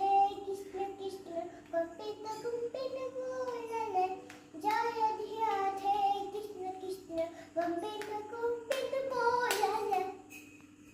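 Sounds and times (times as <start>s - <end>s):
child singing: 0.0s - 10.3s.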